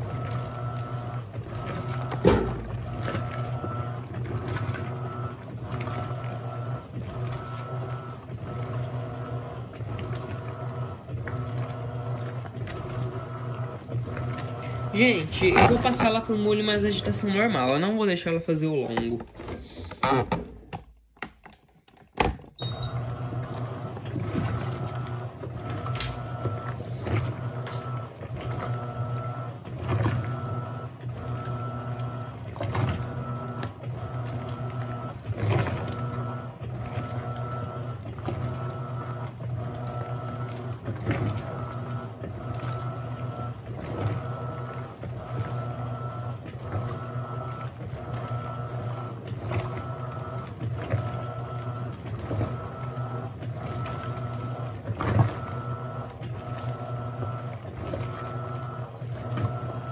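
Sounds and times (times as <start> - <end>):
washing machine motor hum: 0.0 - 59.9
water and clothes churning: 0.0 - 59.9.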